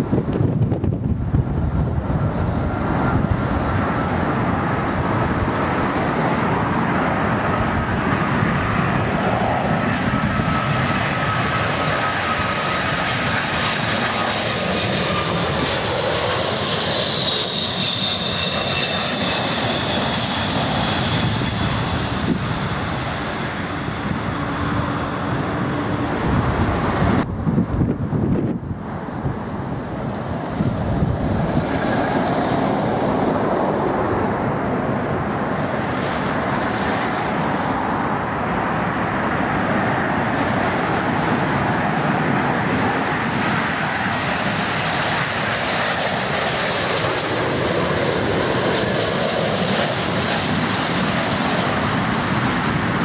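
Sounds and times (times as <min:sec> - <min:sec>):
jet engines passing: 0:00.0 - 0:53.0
wind buffeting microphone: 0:00.0 - 0:53.0.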